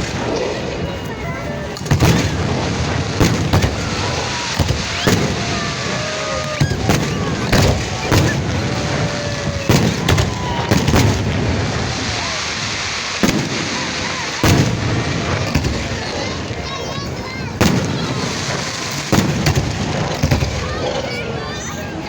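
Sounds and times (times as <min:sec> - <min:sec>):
fireworks bangs: 0:00.0 - 0:22.0
fireworks crackle and rumble: 0:00.0 - 0:22.0.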